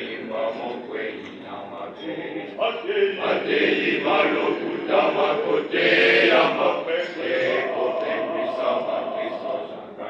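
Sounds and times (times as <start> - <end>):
choir singing: 0.0 - 10.0.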